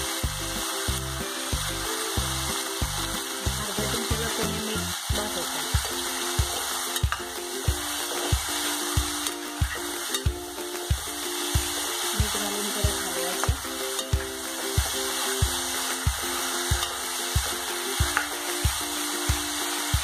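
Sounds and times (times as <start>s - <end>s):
background music with low beat: 0.0s - 20.0s
chicken sizzling in a pot: 0.0s - 20.0s
metal utensil stirring: 3.6s - 20.0s.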